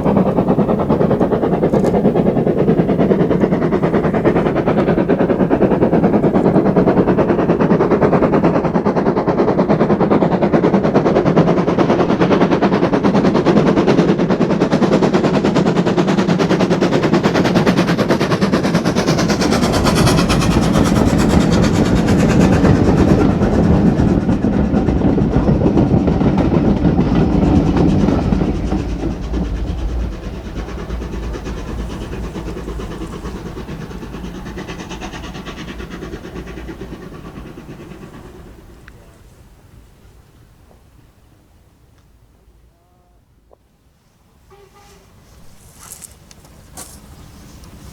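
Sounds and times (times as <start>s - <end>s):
carriages running on rails: 0.0s - 43.1s, 44.1s - 47.9s
steam locomotive exhaust beating: 0.0s - 43.1s, 44.2s - 47.9s.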